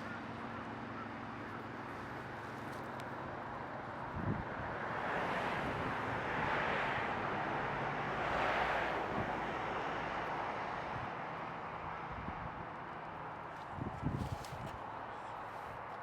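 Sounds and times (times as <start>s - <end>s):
vehicle passing rush: 1.2s - 16.0s.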